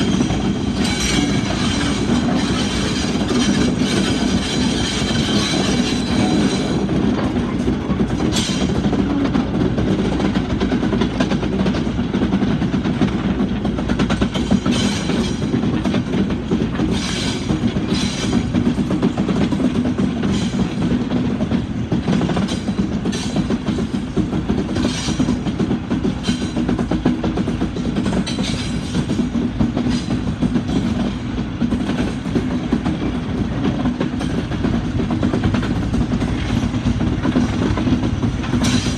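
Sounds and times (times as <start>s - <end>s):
wheels clicking over rail joints: 0.0s - 38.9s.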